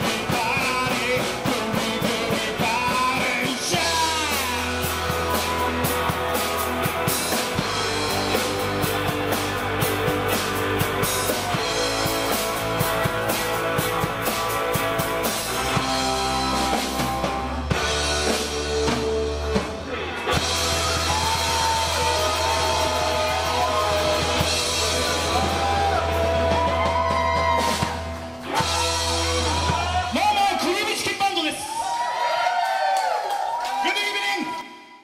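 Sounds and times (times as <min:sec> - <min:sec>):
lead guitar with bent notes: 0:00.0 - 0:30.2
rock band playing: 0:00.0 - 0:32.0.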